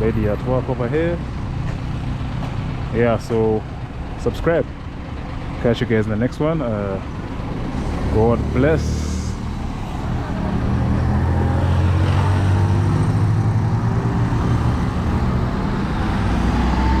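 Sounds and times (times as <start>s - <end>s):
road traffic: 0.0s - 17.0s
vehicle engine running close by: 0.0s - 17.0s.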